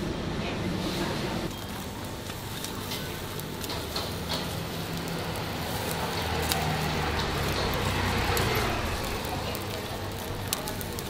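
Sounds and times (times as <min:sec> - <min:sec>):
grill crackling and sizzling: 0:00.0 - 0:11.0.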